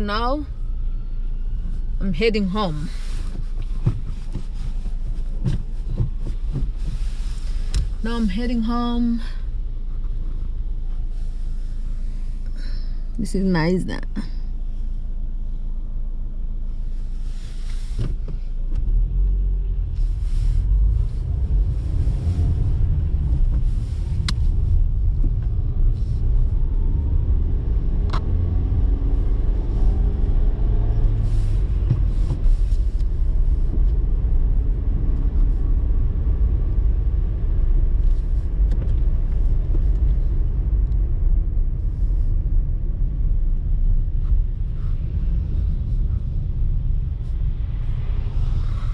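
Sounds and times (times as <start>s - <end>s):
car engine and tyre rumble: 0.0s - 48.9s.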